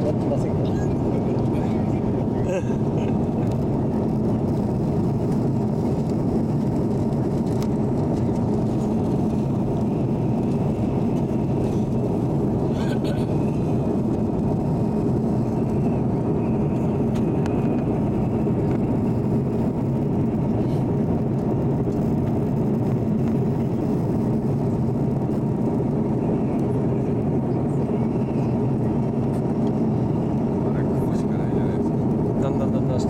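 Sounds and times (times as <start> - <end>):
airliner cabin engine hum: 0.0 - 33.0.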